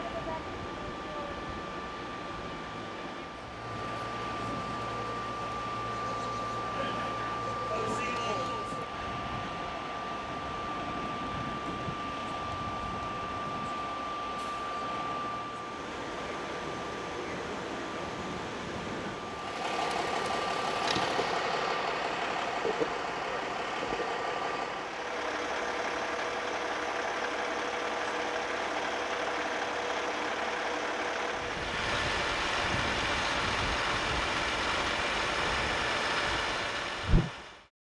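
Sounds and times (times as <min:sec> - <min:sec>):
street traffic engines idling: 0:00.0 - 0:37.7.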